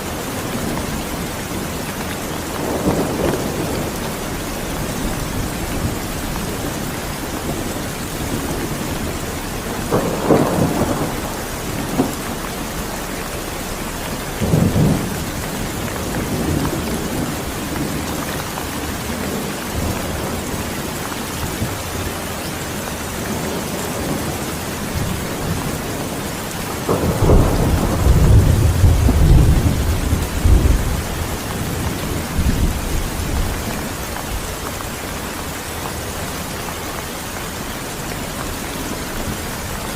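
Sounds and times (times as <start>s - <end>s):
thunder rumbling: 0.0s - 35.0s
steady rain falling: 0.0s - 39.9s.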